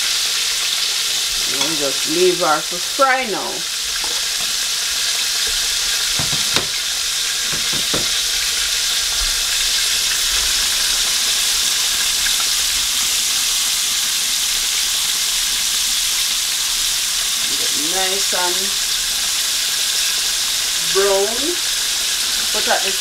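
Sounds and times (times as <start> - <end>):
chicken deep-frying in oil: 0.0 - 23.0.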